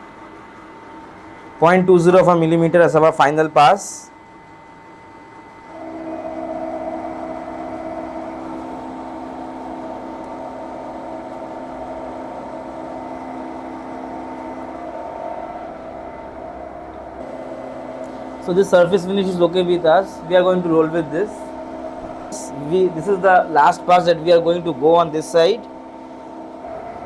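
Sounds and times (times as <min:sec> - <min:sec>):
milling machine humming: 0:00.0 - 0:27.0.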